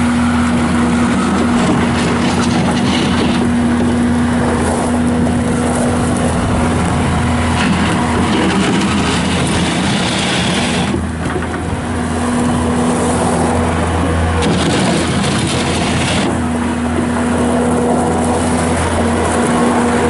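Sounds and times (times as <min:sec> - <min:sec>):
skid steer diesel engine running: 0:00.0 - 0:20.0.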